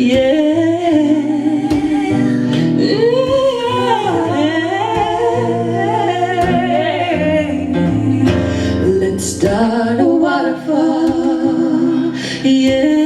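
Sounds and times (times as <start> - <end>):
backing track with bass notes: 0.0 - 13.0
layered wordless singing: 0.0 - 13.0.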